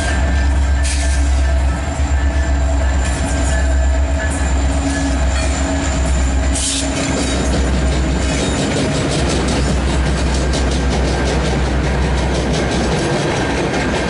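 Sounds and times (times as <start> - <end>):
diesel locomotive engines rumbling: 0.0 - 14.0
steel wheels clicking over rail joints: 0.0 - 14.0.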